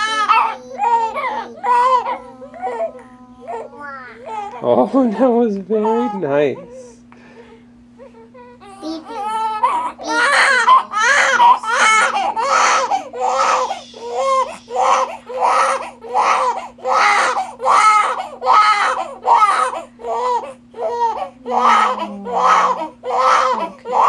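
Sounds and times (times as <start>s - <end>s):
newborn baby crying: 0.0s - 7.0s, 8.0s - 24.0s.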